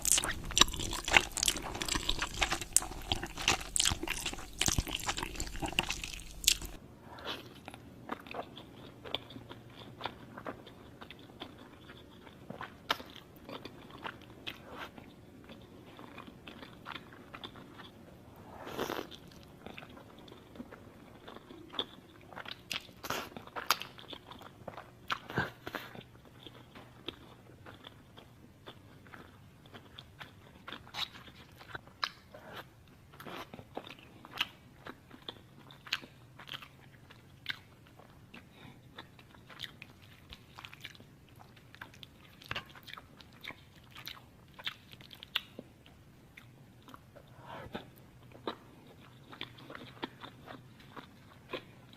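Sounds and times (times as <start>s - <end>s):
crunchy chewing: 0.0s - 51.9s.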